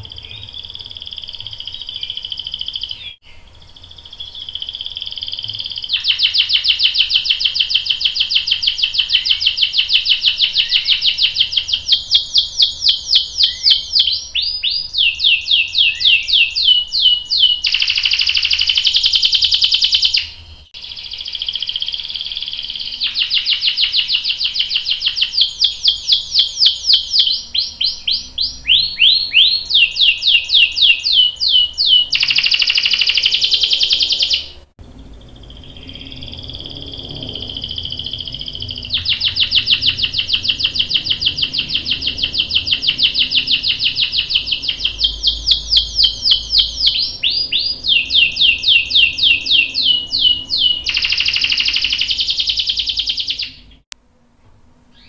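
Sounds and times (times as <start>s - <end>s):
canary singing trills: 0.0s - 53.8s.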